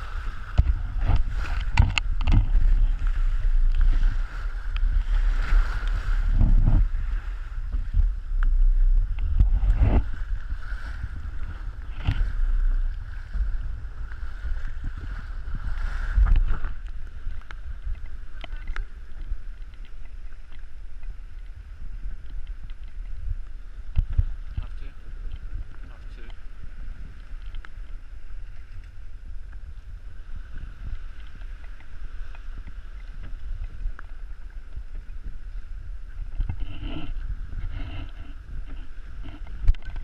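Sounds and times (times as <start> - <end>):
water rushing along boat hull: 0.0 - 40.0
wind buffeting microphone: 0.0 - 40.0.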